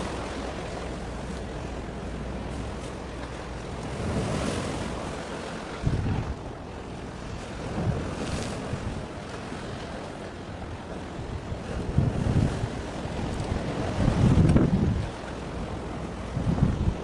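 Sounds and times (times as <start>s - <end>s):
sea waves: 0.0s - 17.0s
wind buffeting microphone: 0.0s - 17.0s.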